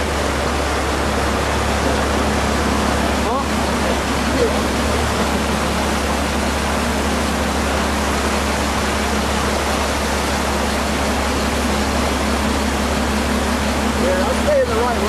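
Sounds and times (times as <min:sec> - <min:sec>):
truck engine hum: 0:00.0 - 0:15.0
water rushing: 0:00.0 - 0:15.0.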